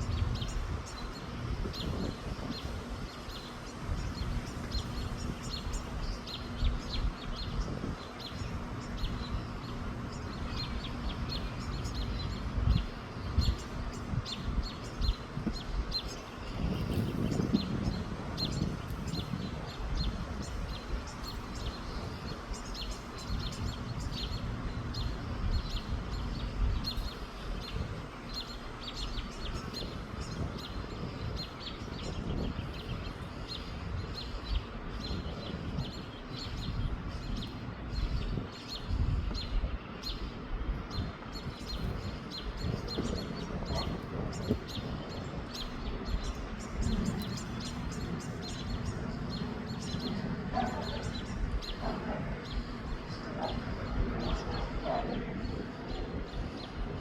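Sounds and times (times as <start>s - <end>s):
small birds chirping: 0.0s - 57.0s
wind on microphone: 0.0s - 57.0s.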